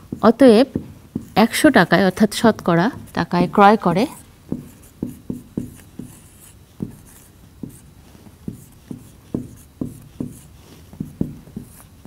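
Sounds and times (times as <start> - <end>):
marker pen writing on whiteboard: 0.0 - 12.0.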